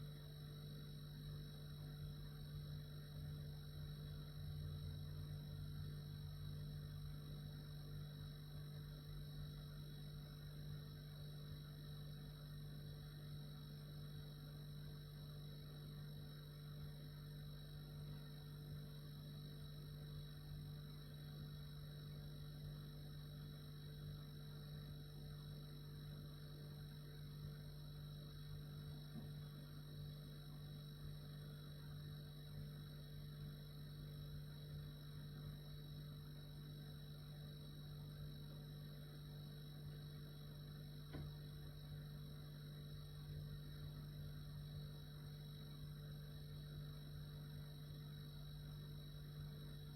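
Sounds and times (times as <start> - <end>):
refrigerator compressor hum: 0.0 - 49.9.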